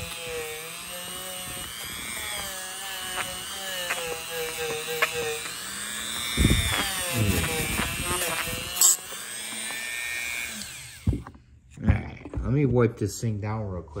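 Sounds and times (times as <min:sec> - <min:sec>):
rotary tool whine: 0:00.0 - 0:11.5.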